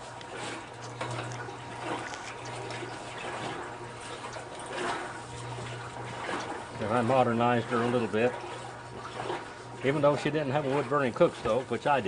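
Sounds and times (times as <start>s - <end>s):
steady low hum: 0.0s - 12.0s
water sloshing in washing machine: 0.0s - 12.0s.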